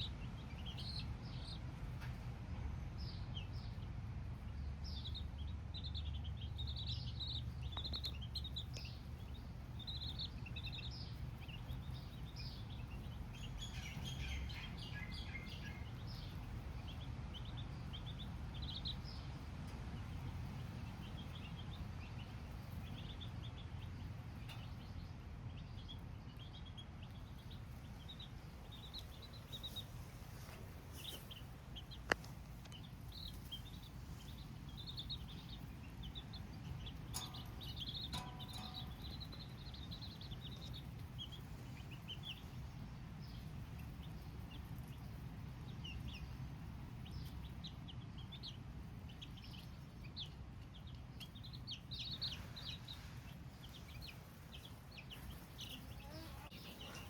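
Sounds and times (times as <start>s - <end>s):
baby chicks cheeping: 0.0s - 57.0s
low steady rumble: 0.0s - 57.0s.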